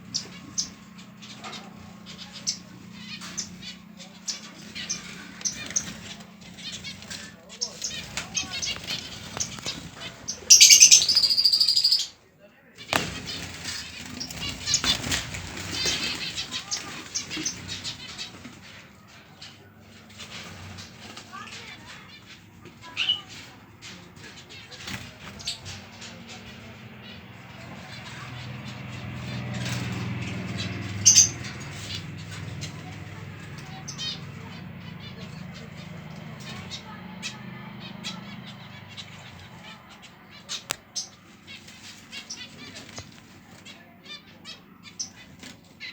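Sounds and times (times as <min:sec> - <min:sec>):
finches chirping: 0:00.0 - 0:12.2, 0:12.9 - 0:45.9
loud bird call: 0:00.0 - 0:12.2, 0:20.4 - 0:45.9.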